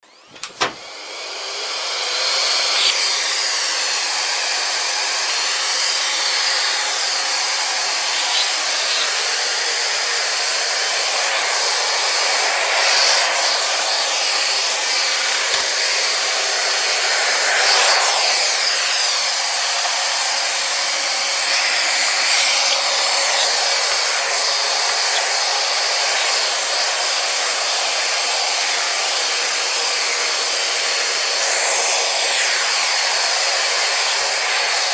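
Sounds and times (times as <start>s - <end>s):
robot vacuum cleaner whirring: 0.0s - 34.9s.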